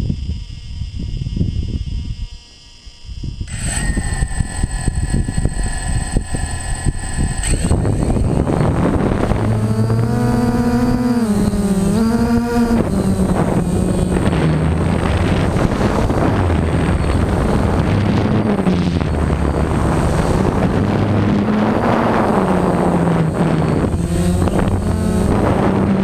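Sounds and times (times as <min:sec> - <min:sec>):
drone propellers whirring: 0:00.0 - 0:26.0
wind on microphone: 0:00.0 - 0:26.0.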